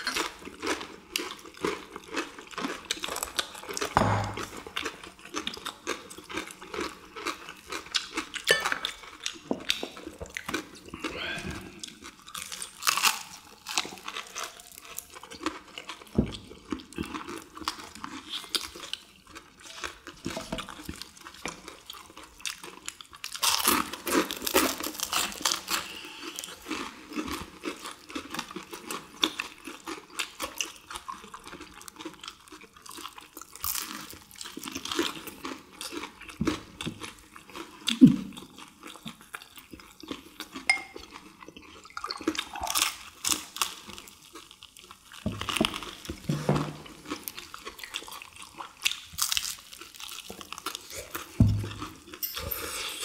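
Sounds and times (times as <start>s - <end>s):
crunching fried chicken: 0.0s - 52.2s.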